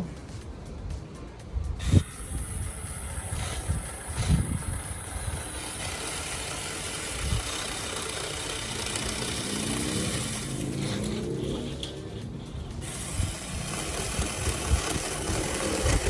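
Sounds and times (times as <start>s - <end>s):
motor humming: 1.8s - 16.0s.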